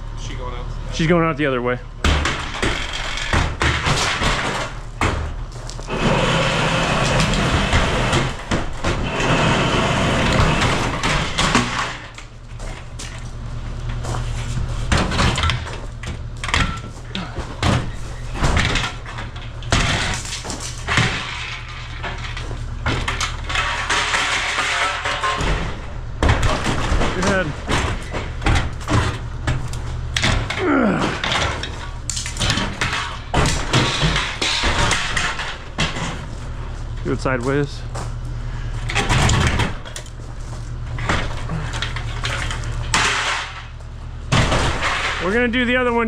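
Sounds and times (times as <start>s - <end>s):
excavator engine running: 0.0s - 46.0s
wood cracking and crashing: 2.0s - 38.2s, 38.8s - 46.0s.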